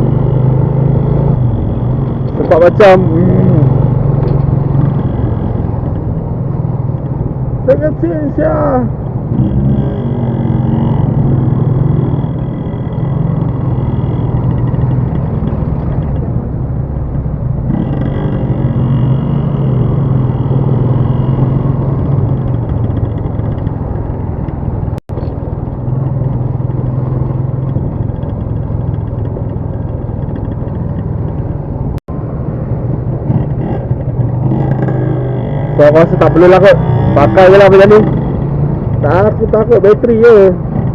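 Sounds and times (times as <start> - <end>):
road noise: 0.0 - 40.9
vehicle engine rumble: 0.0 - 40.9.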